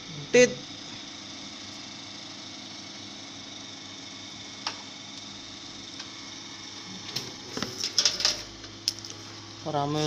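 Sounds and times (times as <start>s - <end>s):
computer fans humming: 0.0s - 10.0s.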